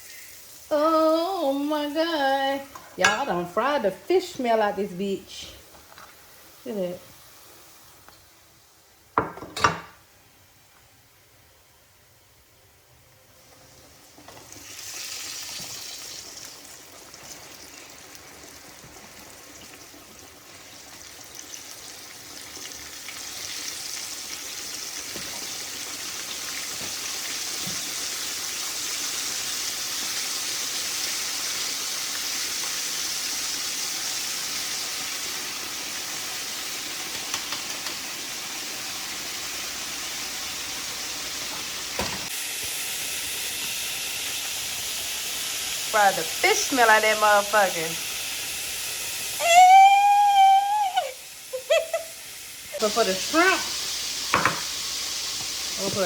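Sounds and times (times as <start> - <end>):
fish sizzling in hot oil: 0.0 - 8.0, 13.4 - 56.0.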